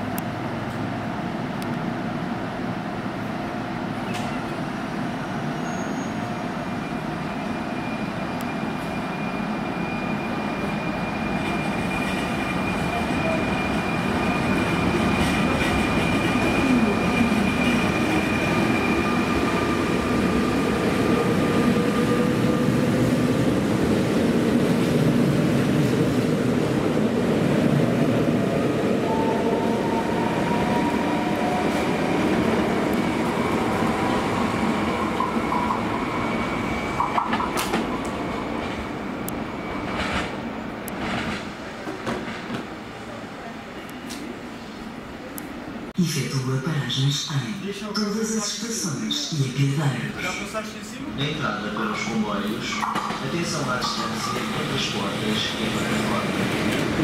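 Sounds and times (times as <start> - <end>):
electric train passing: 0.2 - 43.1, 47.2 - 57.0.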